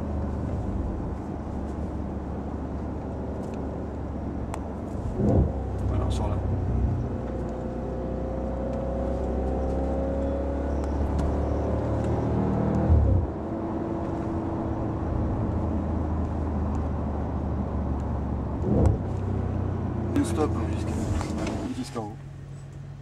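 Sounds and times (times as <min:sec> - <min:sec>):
car engine revving: 0:00.0 - 0:22.1.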